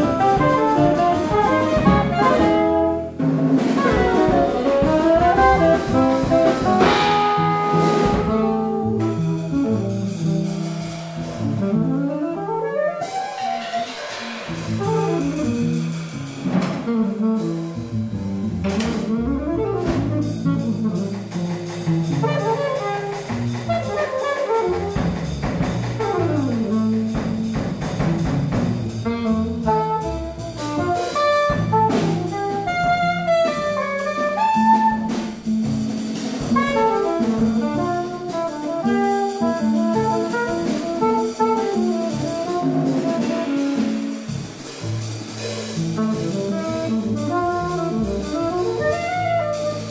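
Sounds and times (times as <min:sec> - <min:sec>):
drum and cymbal hits: 0:00.0 - 0:11.9, 0:13.0 - 0:19.2, 0:19.8 - 0:49.9
saxophones playing jazz: 0:00.0 - 0:27.8, 0:28.5 - 0:49.9
double bass: 0:00.0 - 0:49.9.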